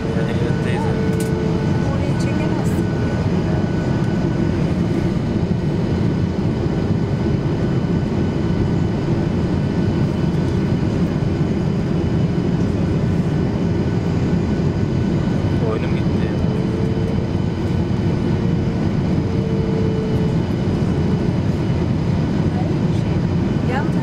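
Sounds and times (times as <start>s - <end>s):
airplane cabin noise: 0.0s - 24.0s.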